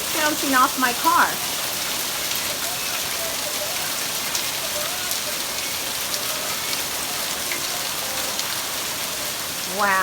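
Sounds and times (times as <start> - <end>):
hailstones ticking on hard surfaces: 0.0 - 10.0
heavy rain and hail falling: 0.0 - 10.0.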